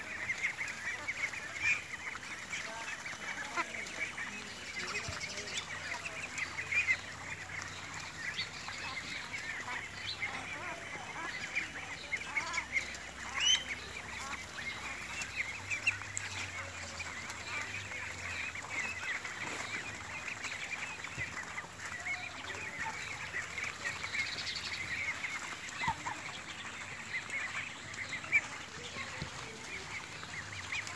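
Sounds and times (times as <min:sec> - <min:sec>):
ducks quacking: 0:00.0 - 0:30.9.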